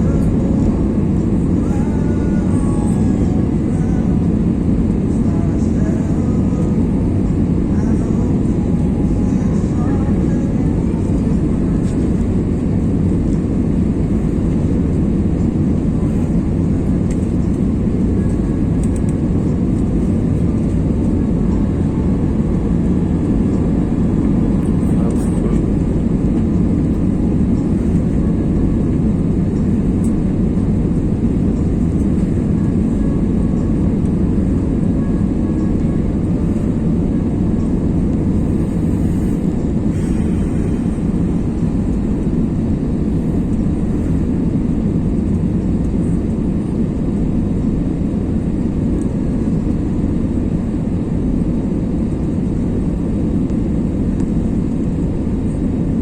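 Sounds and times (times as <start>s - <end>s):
airplane cabin engine roar: 0.0s - 56.0s.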